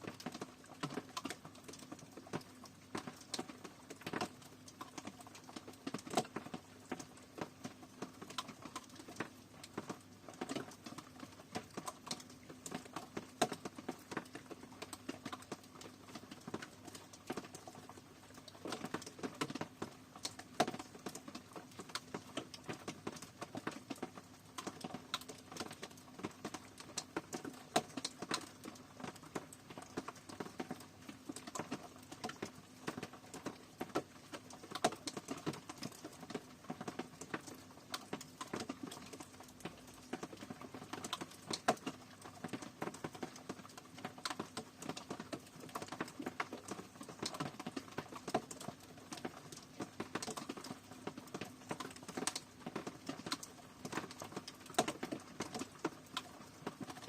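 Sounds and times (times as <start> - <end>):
raindrops tapping on hard surface: 0.0 - 57.0.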